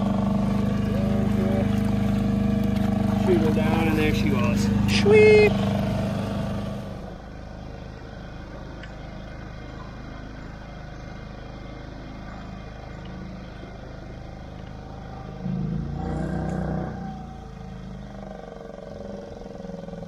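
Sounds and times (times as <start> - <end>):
boat motor droning: 0.0 - 20.0
water noise: 0.0 - 20.0
wind: 0.0 - 20.0.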